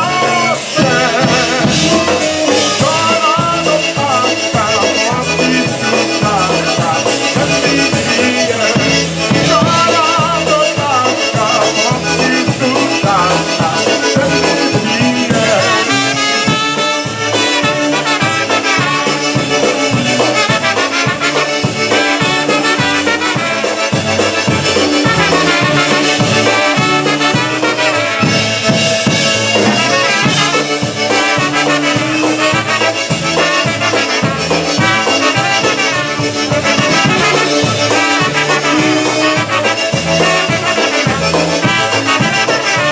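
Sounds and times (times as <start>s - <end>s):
polka band playing: 0.0s - 42.9s
trumpets playing melody: 0.0s - 42.9s.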